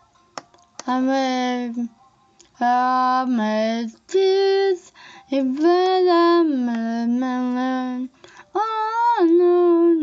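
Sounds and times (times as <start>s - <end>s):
young woman singing: 0.8s - 10.0s.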